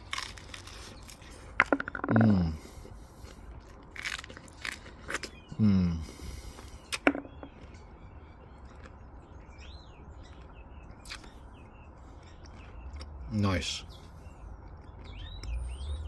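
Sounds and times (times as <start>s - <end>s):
wet crunchy chewing: 0.0s - 13.3s, 14.0s - 16.0s
birds chirping: 0.0s - 16.0s.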